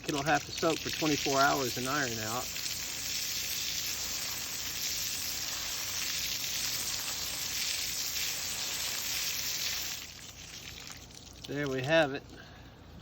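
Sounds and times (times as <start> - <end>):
water spraying: 0.0 - 12.3.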